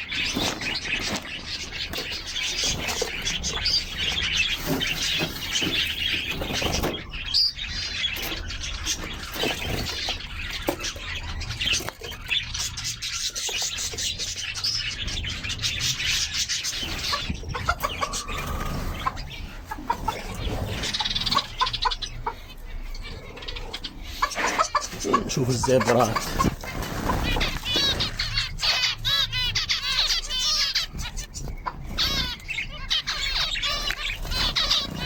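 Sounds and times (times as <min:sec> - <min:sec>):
caged birds chirping: 0:00.0 - 0:35.0
chickens clucking: 0:00.0 - 0:35.0.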